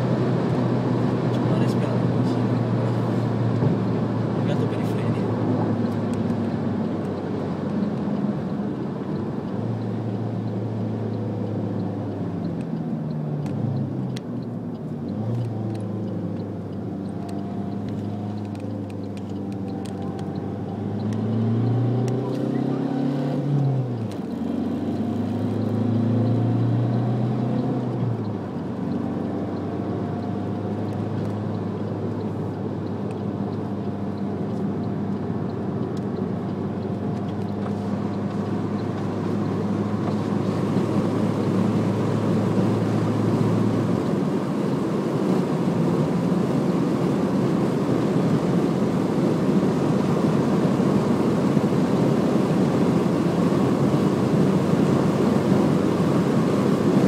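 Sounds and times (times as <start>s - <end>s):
car engine revving in cabin: 0.0s - 57.0s
road and wind noise: 0.0s - 57.0s.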